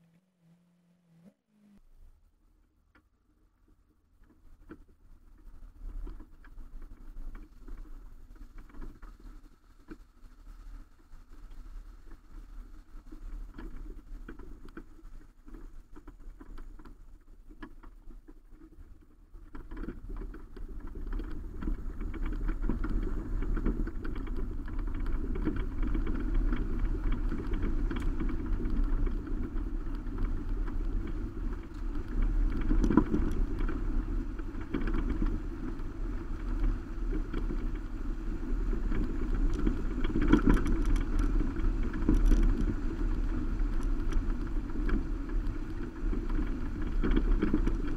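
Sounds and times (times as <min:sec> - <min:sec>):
road and tyre noise: 0:00.0 - 0:47.9
gravel clicks: 0:02.5 - 0:47.9.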